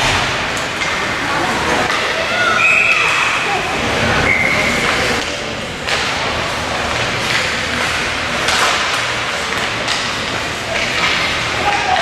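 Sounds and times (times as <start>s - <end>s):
noisy arena wash: 0.0s - 12.0s.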